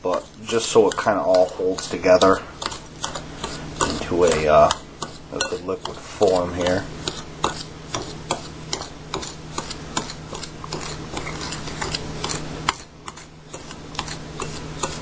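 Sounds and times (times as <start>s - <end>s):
spoon scraping a bowl: 0.0s - 15.0s.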